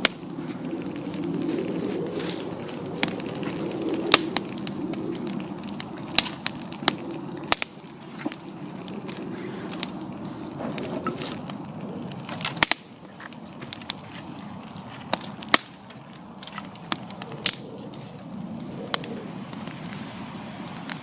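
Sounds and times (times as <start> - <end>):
campfire flames rushing: 0.0 - 21.0
fire crackles and pops: 0.0 - 21.0.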